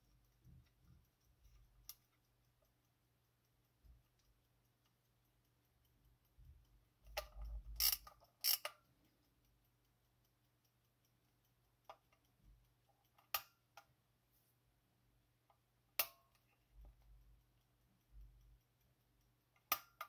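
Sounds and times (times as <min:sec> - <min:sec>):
ratcheting mechanical clicks: 0:00.0 - 0:14.0, 0:15.4 - 0:20.0
clock ticking: 0:00.0 - 0:20.0.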